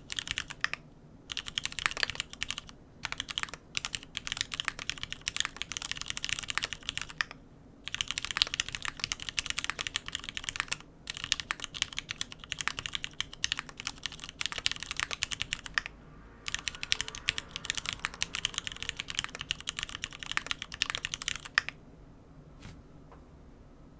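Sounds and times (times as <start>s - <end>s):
fast typing on mechanical keyboard: 0.0s - 15.9s, 16.5s - 21.7s.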